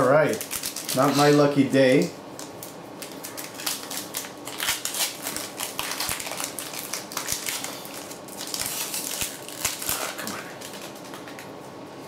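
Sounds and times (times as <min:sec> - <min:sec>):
foil wrapper crinkling: 0:00.2 - 0:11.5.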